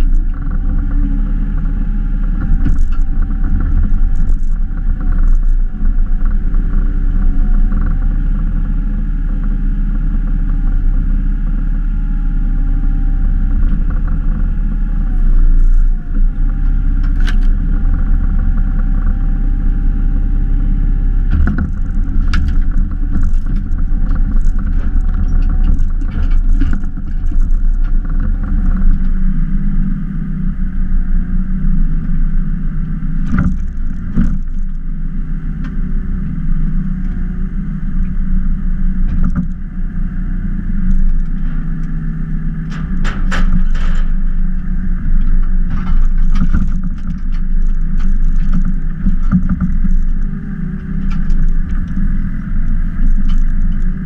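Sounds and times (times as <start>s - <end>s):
diesel engine running: 0.0s - 54.0s
faint wavering whine: 0.0s - 54.0s.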